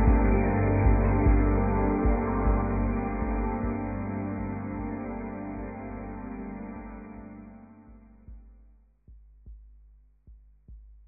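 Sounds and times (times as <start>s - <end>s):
music with slow low beat: 0.0s - 11.0s.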